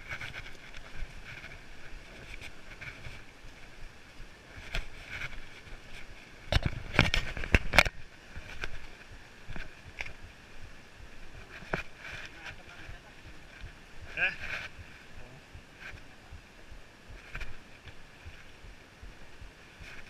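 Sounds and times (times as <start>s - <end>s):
footsteps on rocky trail: 0.0s - 20.0s.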